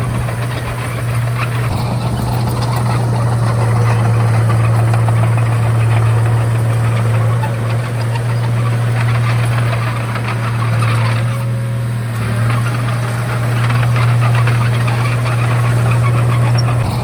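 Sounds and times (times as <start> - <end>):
bulldozer diesel engine droning: 0.0 - 17.0
dense clattering: 0.0 - 17.0.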